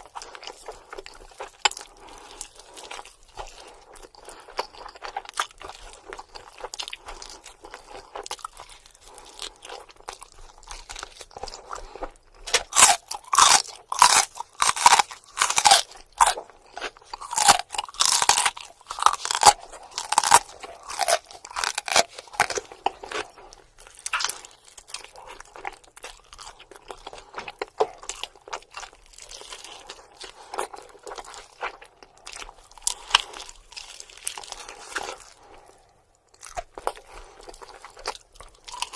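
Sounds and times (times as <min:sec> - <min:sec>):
wet chewing: 0:00.0 - 0:38.9
crispy chicken skin crunching: 0:04.1 - 0:35.6, 0:36.3 - 0:38.9.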